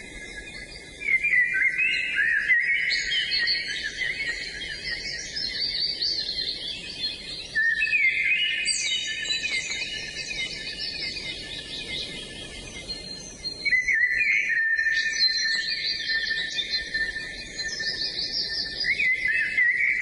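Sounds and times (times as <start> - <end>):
birds singing: 0.0 - 20.0.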